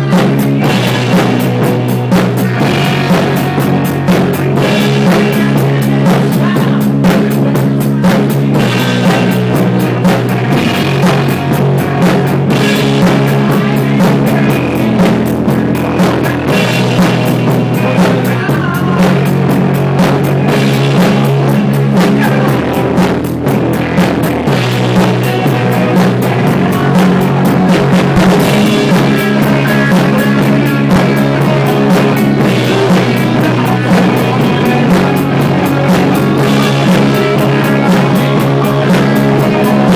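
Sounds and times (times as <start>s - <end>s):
drum kit fast beat: 0.0s - 39.9s
electric guitars: 0.0s - 39.9s
low bass line: 0.0s - 39.9s.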